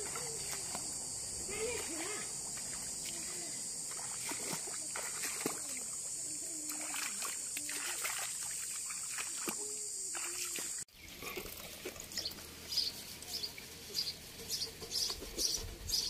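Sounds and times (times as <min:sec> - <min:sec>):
wading through shallow water: 0:00.0 - 0:15.6
water sloshing and splashing: 0:00.0 - 0:15.8.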